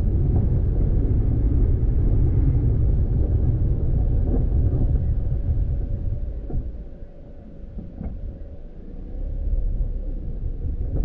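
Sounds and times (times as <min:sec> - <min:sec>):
vehicle rumbling on dirt road: 0:00.0 - 0:11.0.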